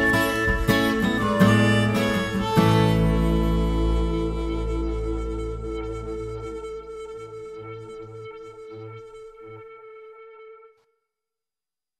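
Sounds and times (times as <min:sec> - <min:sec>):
instrumental background music: 0:00.0 - 0:10.8.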